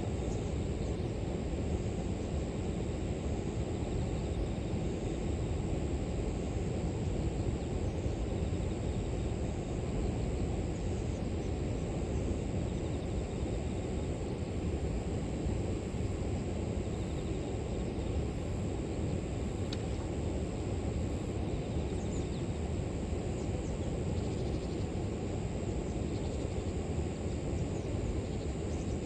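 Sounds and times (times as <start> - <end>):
grass insects droning: 0.0 - 29.0.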